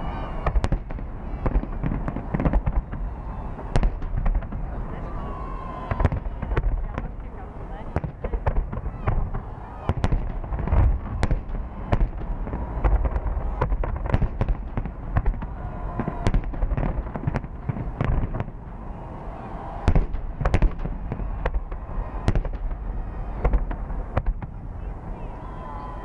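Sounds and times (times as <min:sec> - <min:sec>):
fireworks bangs and cracks: 0:00.0 - 0:26.0
low rumble of distant bursts: 0:00.0 - 0:26.0.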